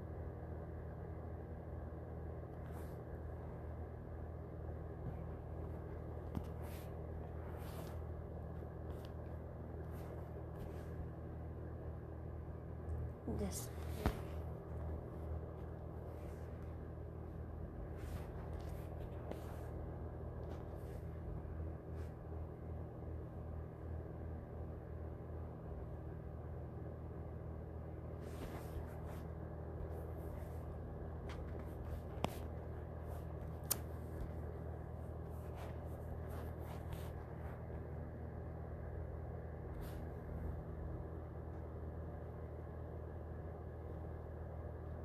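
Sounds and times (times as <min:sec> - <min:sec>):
low room hum: 0:00.0 - 0:45.0.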